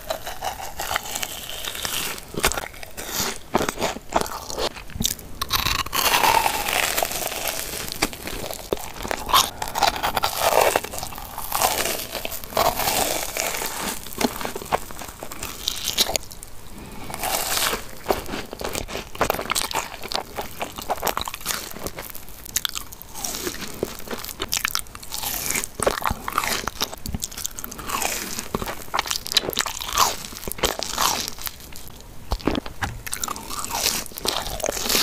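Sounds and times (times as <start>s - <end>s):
chewing: 0.0s - 35.0s
crunching fried crust: 0.0s - 35.0s.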